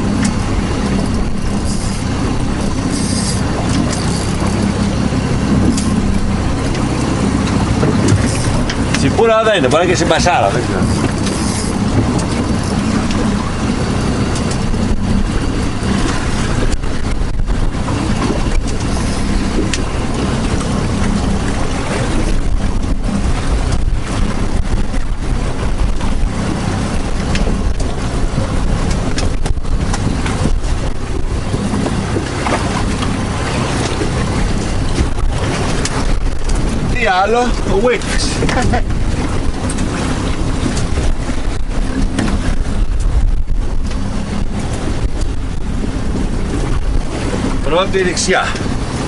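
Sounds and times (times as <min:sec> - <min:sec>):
low steady drone: 0:00.0 - 0:49.0
wind buffeting microphone: 0:00.0 - 0:49.0.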